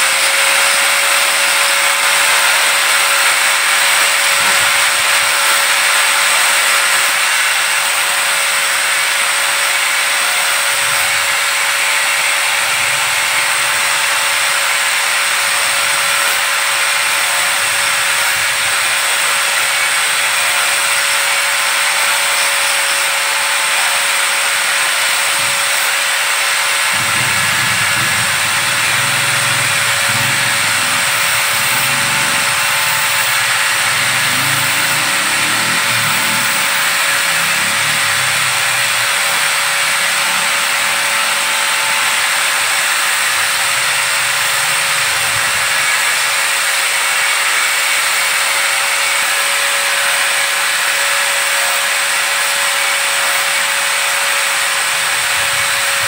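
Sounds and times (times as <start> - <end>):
angle grinder sanding plastic pipe: 0.0 - 56.0.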